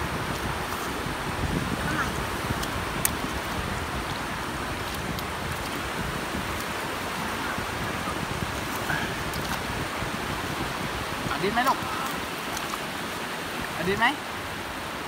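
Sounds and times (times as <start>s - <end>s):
sea surf on sandy beach: 0.0s - 15.0s
wind buffeting microphone: 0.0s - 15.0s.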